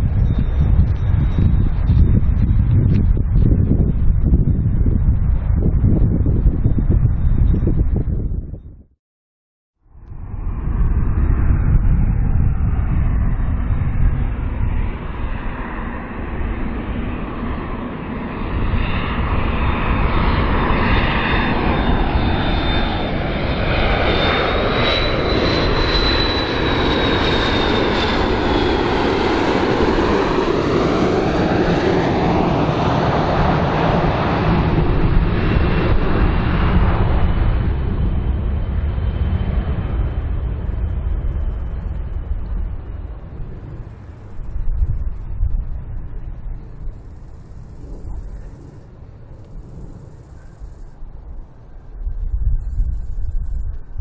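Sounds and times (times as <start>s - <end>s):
jet airliner roar: 0.0s - 8.6s, 9.9s - 54.0s
high jet engine whine: 0.0s - 8.9s, 9.8s - 54.0s.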